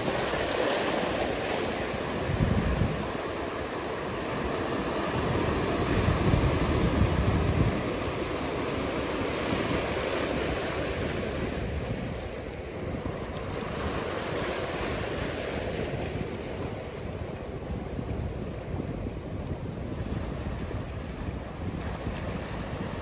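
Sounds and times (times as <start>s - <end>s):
ocean surf breaking: 0.0s - 23.0s
wind rumbling on microphone: 0.0s - 23.0s.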